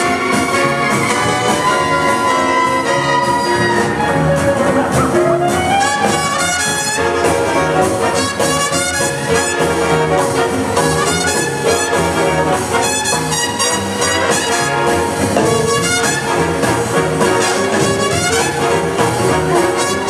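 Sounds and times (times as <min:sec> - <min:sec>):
swing big band playing: 0:00.0 - 0:20.0.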